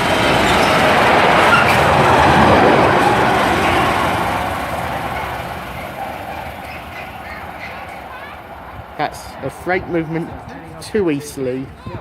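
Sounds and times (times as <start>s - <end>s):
diesel locomotive passing: 0.0s - 11.8s
wagon wheels clattering on track: 0.0s - 12.0s.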